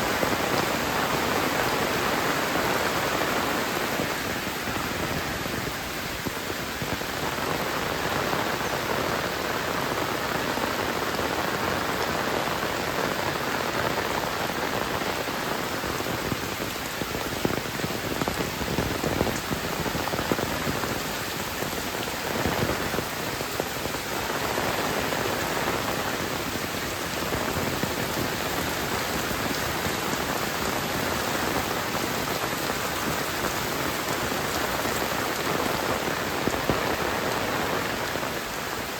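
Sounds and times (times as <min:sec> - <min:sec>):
heavy rain patter: 0:00.0 - 0:38.9.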